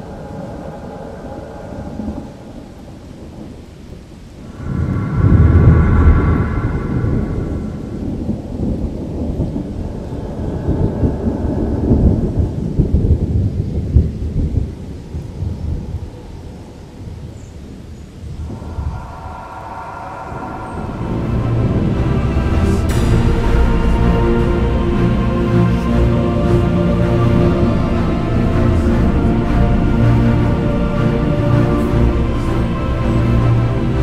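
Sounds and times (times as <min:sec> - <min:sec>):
rolling thunder: 0:00.0 - 0:17.3, 0:18.2 - 0:34.0.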